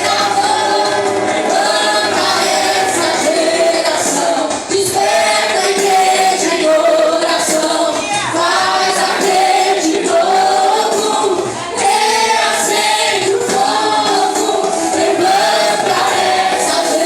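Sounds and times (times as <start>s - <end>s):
group singing worship song: 0.0s - 17.0s
musical accompaniment: 0.0s - 17.0s.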